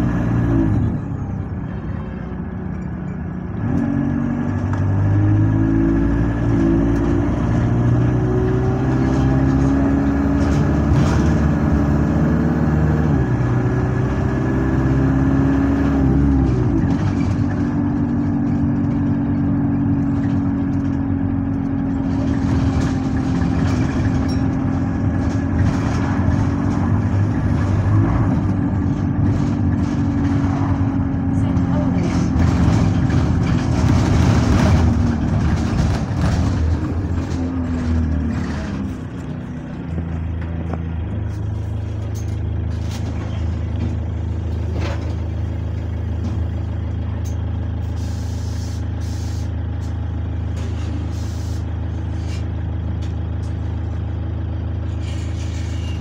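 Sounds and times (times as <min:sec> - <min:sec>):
bus engine changing gears: 0:00.0 - 0:56.0.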